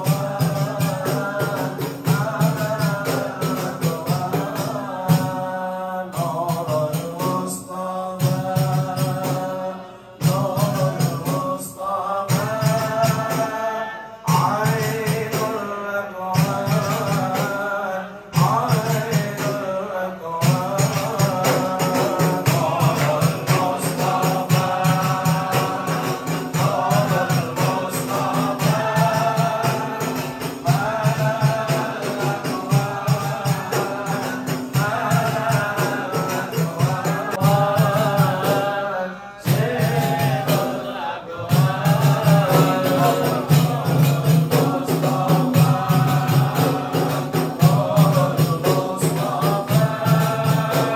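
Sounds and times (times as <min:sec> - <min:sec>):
men chanting together: 0:00.0 - 0:50.9
percussion beat: 0:00.0 - 0:50.9.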